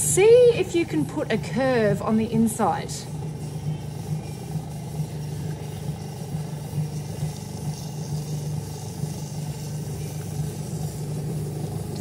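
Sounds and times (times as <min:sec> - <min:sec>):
potter's wheel motor humming: 0:00.0 - 0:12.0.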